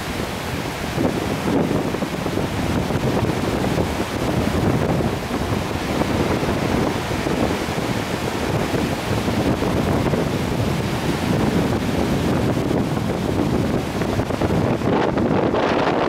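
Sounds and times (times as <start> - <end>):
surf breaking on beach: 0.0 - 16.0
wind on microphone: 0.0 - 16.0.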